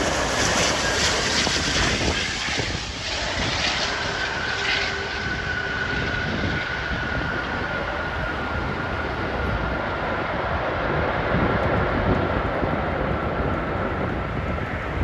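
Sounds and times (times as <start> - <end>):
jet engines with high whine: 0.0 - 15.0.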